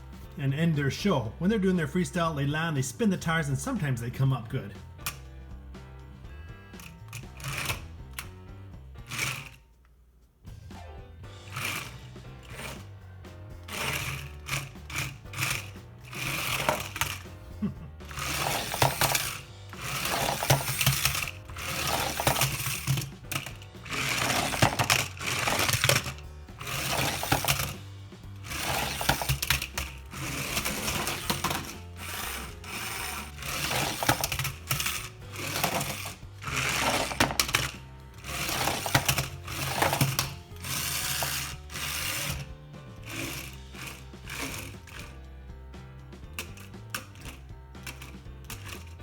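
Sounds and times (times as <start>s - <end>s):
toy truck motor whirring: 6.8s - 9.9s, 11.3s - 45.3s, 46.2s - 49.0s.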